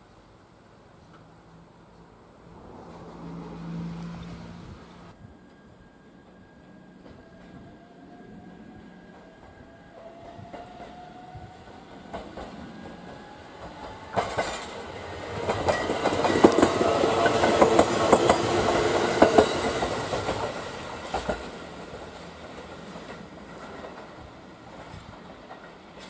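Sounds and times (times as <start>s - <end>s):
electric train hum: 0.8s - 26.0s.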